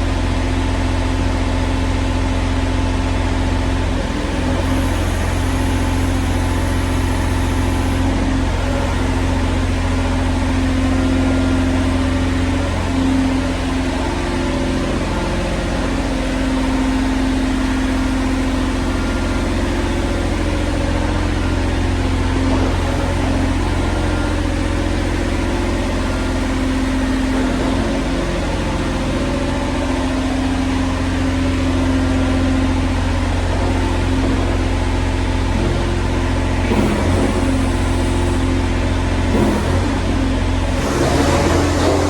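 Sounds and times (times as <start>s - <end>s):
excavator diesel engine running: 0.0s - 42.0s
engine knocks: 4.2s - 42.0s.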